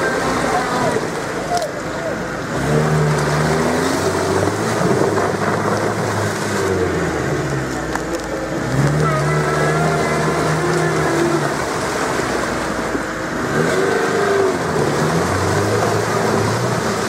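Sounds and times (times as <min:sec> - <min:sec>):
car engine revving hard: 0:02.2 - 0:17.0.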